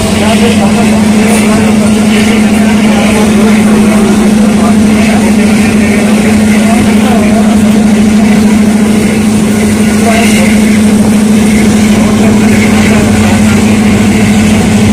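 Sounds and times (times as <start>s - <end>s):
road noise: 0.0s - 14.9s
vehicle engine droning: 0.0s - 14.9s.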